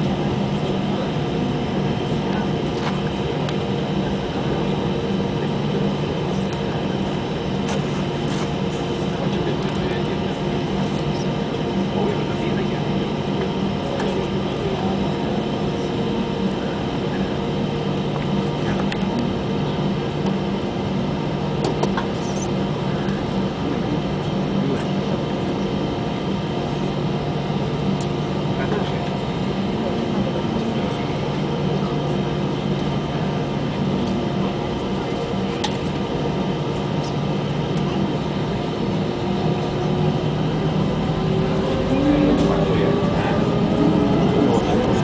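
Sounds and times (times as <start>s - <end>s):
jet engine cabin hum: 0.0s - 45.0s.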